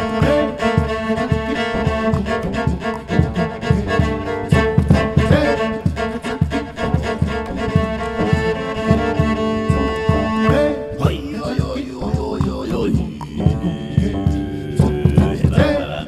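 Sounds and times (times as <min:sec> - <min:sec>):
solo cello: 0:00.0 - 0:14.7
person singing: 0:00.0 - 0:16.0.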